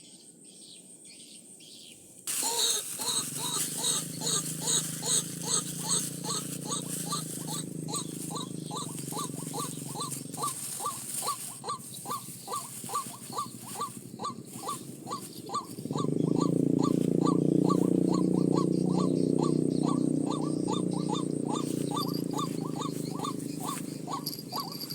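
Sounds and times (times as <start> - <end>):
bird calling short rising notes: 2.3 - 24.9.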